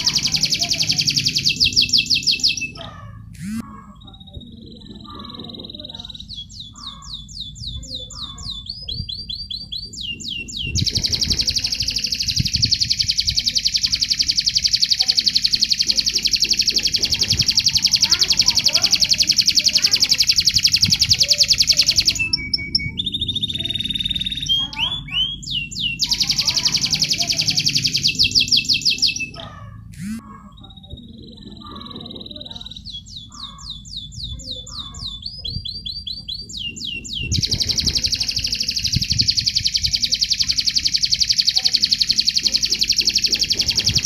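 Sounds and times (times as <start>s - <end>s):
canary singing trills: 0.0s - 44.0s.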